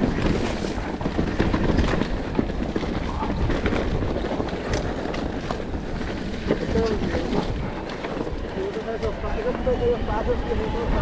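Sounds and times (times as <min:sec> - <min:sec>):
knocks and rattles: 0:00.0 - 0:09.0.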